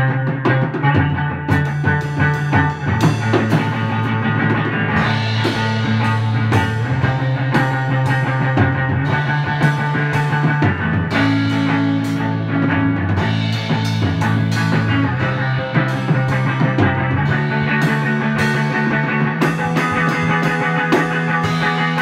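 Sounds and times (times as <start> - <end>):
drum kit groove: 0.0 - 22.0
electric guitar: 0.0 - 22.0.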